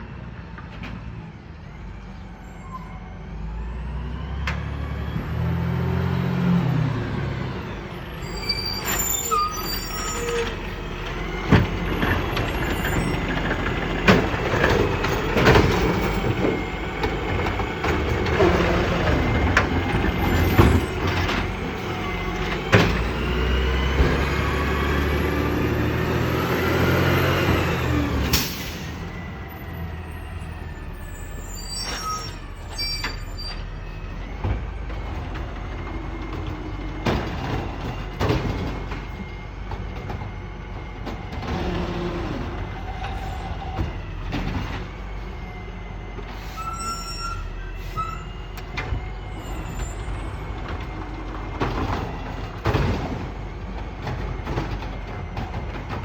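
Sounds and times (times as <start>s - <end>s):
diesel engine revving: 3.1s - 56.0s.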